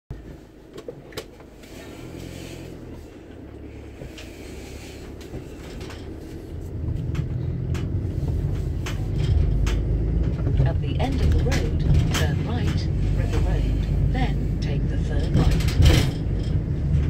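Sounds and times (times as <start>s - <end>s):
vehicle engine rumble: 0.1s - 17.0s.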